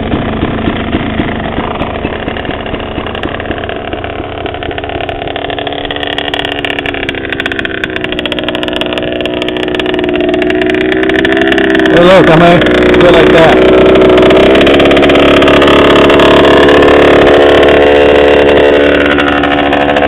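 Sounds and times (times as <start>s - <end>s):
dirt bike engine idling: 0.0s - 20.0s.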